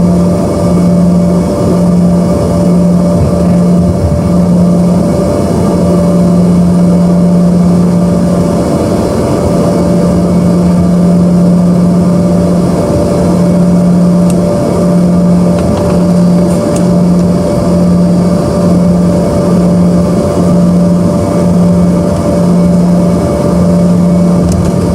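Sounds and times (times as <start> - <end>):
jet engines roaring in cabin: 0.0 - 24.9.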